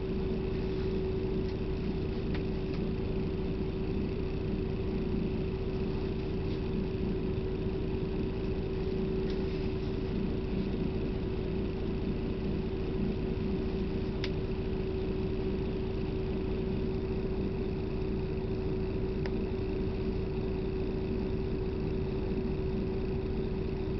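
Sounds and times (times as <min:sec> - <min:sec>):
bus cabin drone: 0:00.0 - 0:23.9
constant hum: 0:00.0 - 0:23.9.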